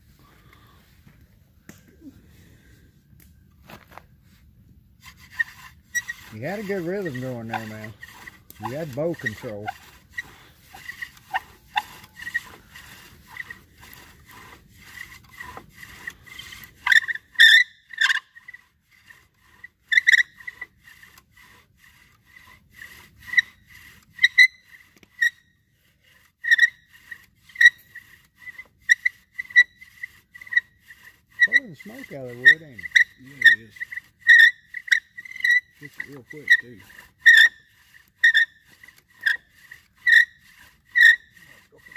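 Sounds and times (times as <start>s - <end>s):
wooden spindle squeaking and rubbing: 3.5s - 41.9s.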